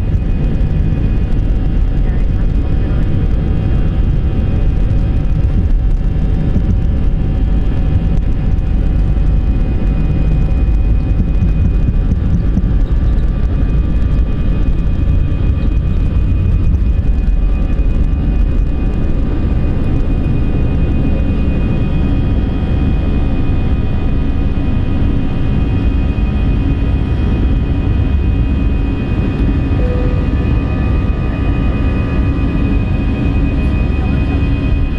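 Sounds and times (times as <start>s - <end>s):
jet engines rumbling: 0.0s - 34.9s
whining engine tones: 0.0s - 34.9s.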